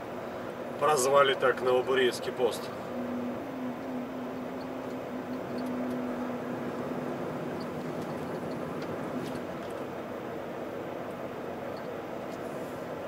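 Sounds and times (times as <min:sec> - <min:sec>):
low steady hum: 0:00.0 - 0:13.0
truck engine and road noise: 0:00.0 - 0:13.0.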